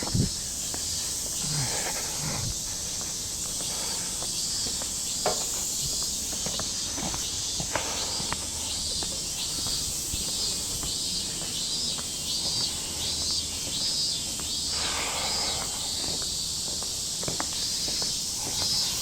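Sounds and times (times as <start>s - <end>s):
cicadas buzzing: 0.0s - 19.0s
light footsteps: 0.0s - 19.0s.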